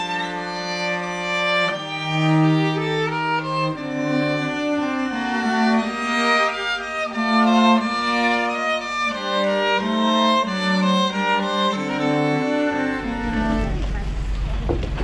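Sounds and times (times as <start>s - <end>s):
slow bowed strings: 0.0s - 15.0s.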